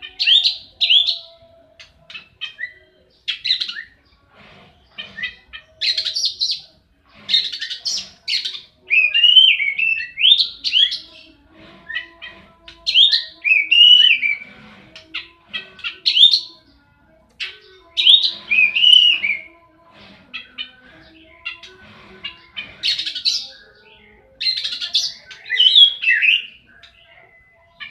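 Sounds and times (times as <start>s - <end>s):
magpie-robin singing: 0.0s - 4.2s, 4.9s - 6.7s, 7.3s - 19.6s, 20.3s - 27.9s.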